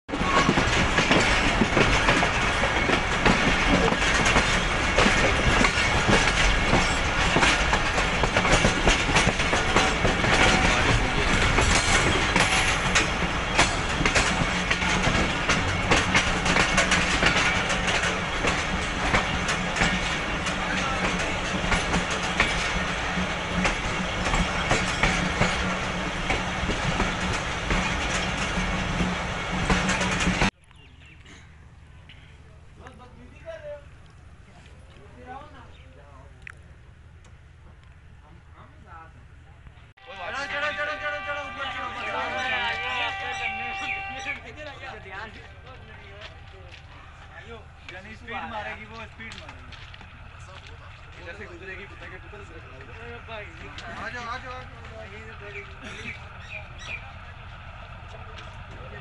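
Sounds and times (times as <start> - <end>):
train wheels rumbling on rails: 0.0 - 59.0
wheels clicking over rail joints: 0.1 - 31.3, 40.4 - 59.0.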